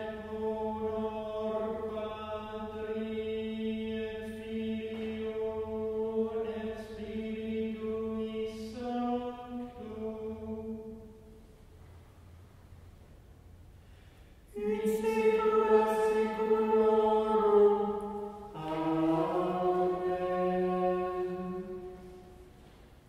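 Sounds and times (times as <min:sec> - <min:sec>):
singers chanting in unison: 0:00.0 - 0:11.1, 0:14.5 - 0:22.5.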